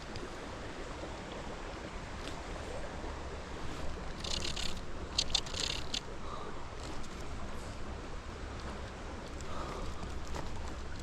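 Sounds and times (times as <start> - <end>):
moving water rushing: 0.0 - 11.0.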